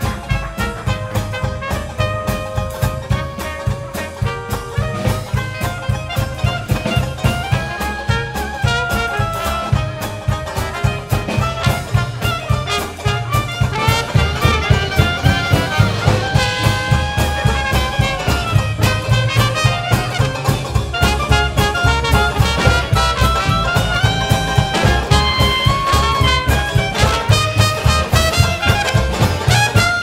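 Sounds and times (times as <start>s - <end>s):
jazz band playing: 0.0s - 30.0s
trumpet and clarinet melody: 0.0s - 30.0s.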